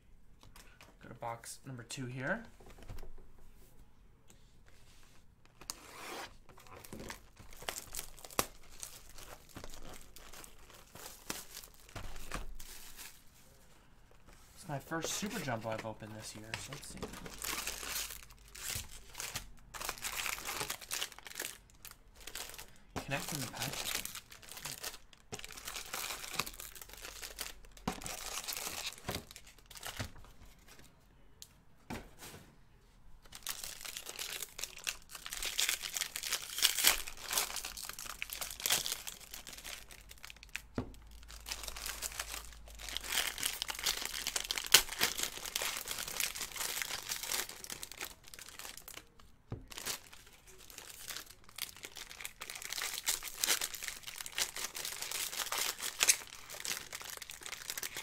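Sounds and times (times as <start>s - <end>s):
card pack wrappers crinkling: 6.6s - 13.2s, 14.6s - 30.2s, 33.2s - 58.0s.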